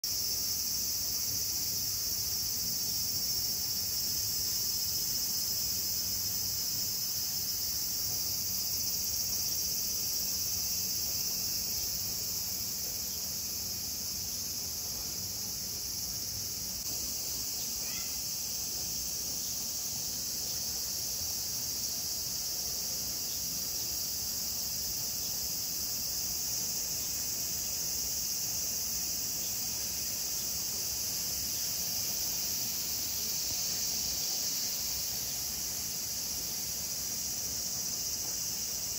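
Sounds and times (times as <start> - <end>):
cicadas singing: 0.0 - 38.9.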